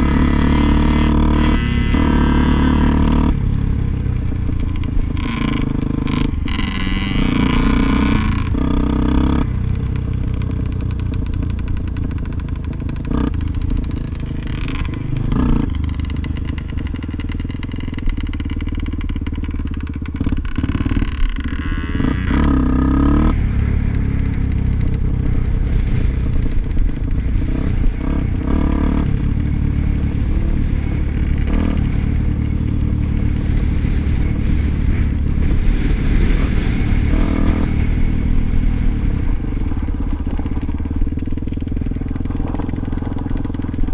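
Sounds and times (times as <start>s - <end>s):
bike clattering and scraping: 0.0s - 43.9s
motorcycle engine revving: 0.0s - 43.9s.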